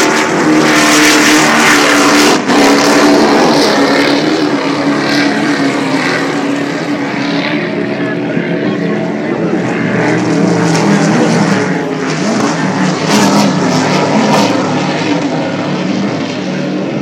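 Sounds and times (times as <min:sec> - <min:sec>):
powerboat engines droning: 0:00.0 - 0:17.0.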